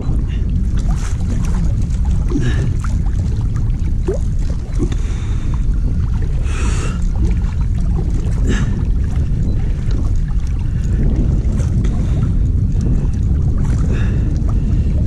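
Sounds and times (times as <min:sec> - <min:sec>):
splashy rushes of water: 0:00.0 - 0:12.2
water lapping against float tube: 0:00.0 - 0:15.0
wind buffeting microphone: 0:00.0 - 0:15.0.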